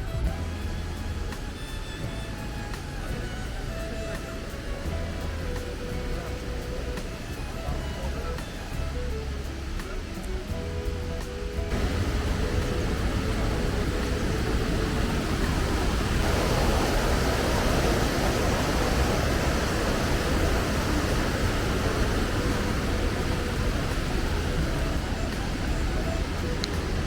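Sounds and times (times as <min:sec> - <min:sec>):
mountain river rushing: 0:00.0 - 0:27.0.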